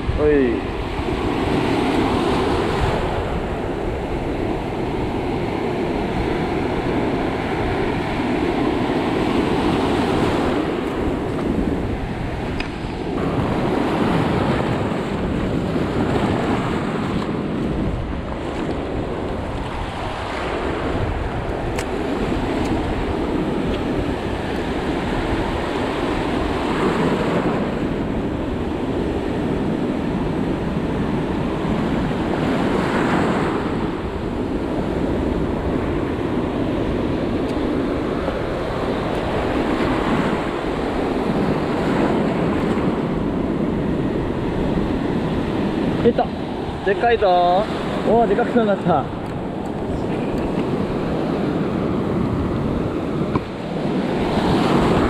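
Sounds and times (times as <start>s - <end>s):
waves washing and surging: 0.0s - 55.0s
wind buffeting microphone: 0.0s - 55.0s.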